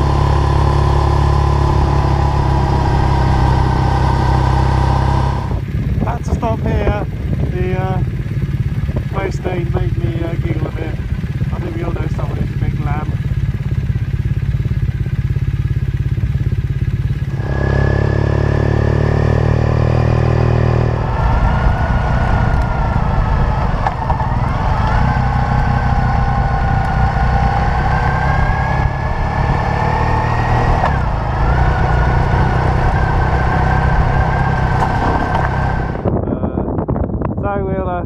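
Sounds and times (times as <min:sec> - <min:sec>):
whining tone: 0:00.0 - 0:07.6, 0:08.7 - 0:36.2
motorcycle engine running: 0:00.0 - 0:37.6
wind and road noise: 0:00.0 - 0:38.0.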